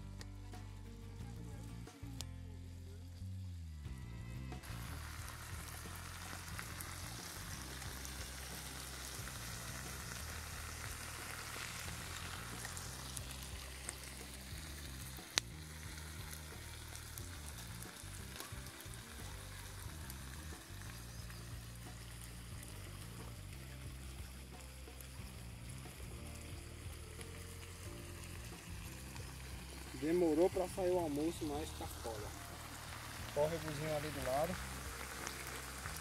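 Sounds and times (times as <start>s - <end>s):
background music: 0.0s - 36.0s
meat sizzling in a pan: 4.6s - 36.0s.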